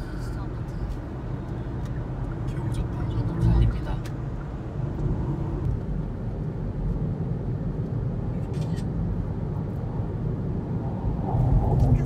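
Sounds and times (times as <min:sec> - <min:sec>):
road and engine rumble inside vehicle: 0:00.0 - 0:12.0.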